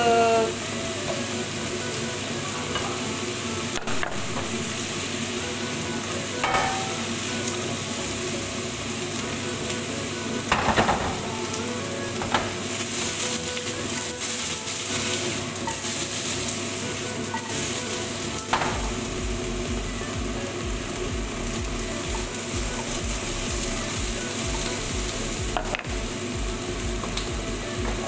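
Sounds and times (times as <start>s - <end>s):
vegetables sizzling in a frying pan: 0.0s - 28.0s.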